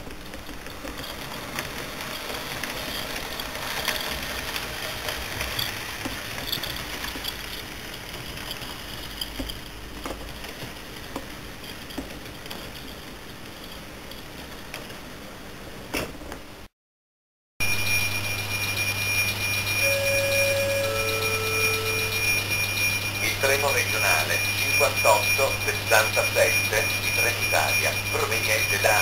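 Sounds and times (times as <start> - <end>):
model train rolling on track: 0.0 - 15.4, 17.9 - 29.0.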